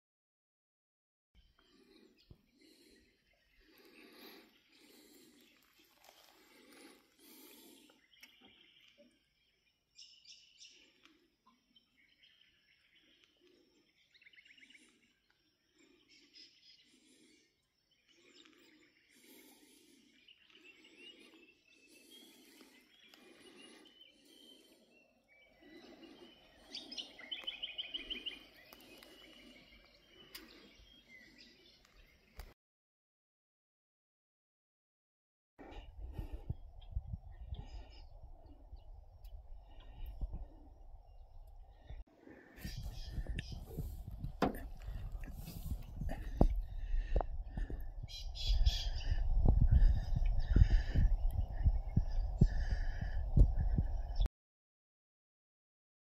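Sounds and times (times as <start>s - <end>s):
faint birds calling: 1.4s - 32.6s, 35.6s - 54.3s.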